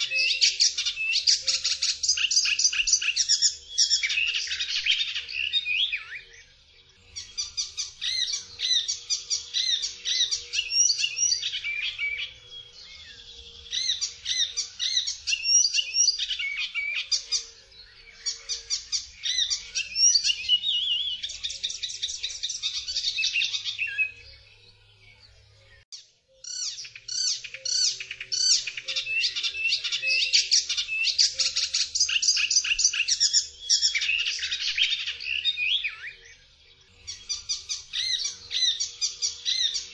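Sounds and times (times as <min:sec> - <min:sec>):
warbler singing: 0:00.0 - 0:39.9.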